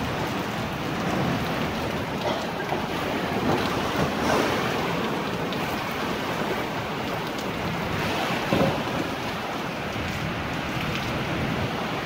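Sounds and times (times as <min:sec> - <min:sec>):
heavy rain: 0:00.0 - 0:12.0
wind: 0:00.0 - 0:12.0.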